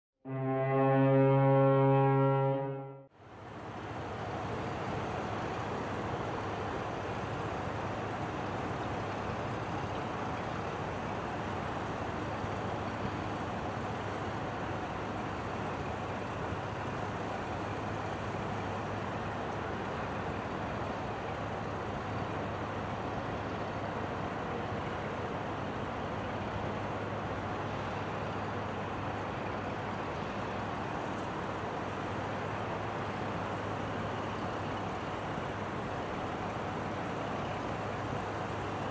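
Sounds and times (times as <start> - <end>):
ship engine drone: 0.3 - 38.9
rushing water noise: 3.2 - 38.9.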